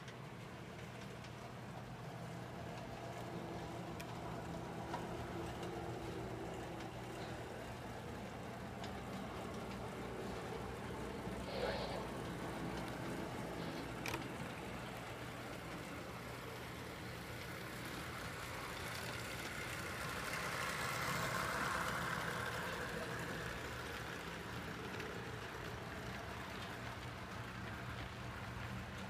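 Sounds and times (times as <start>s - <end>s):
model train motors whirring: 0.0s - 29.0s.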